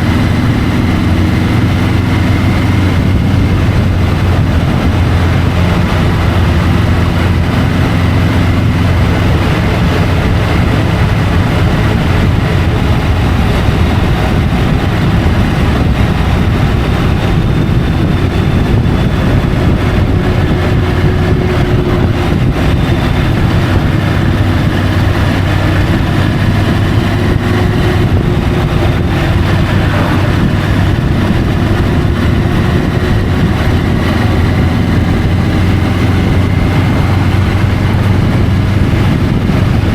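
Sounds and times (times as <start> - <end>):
motorcycle engine running: 0.0 - 39.9
wind rushing at camera: 0.0 - 39.9.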